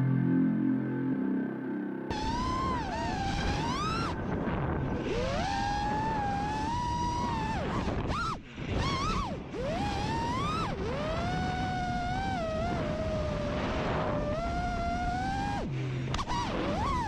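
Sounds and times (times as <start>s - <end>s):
drone motors whining: 2.1s - 17.0s.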